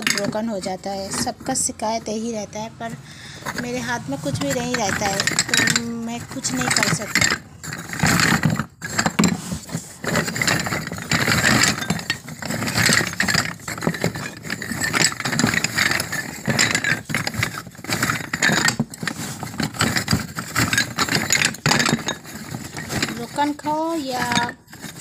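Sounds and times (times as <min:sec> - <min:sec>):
clay cups clinking and rattling: 0:00.0 - 0:25.0.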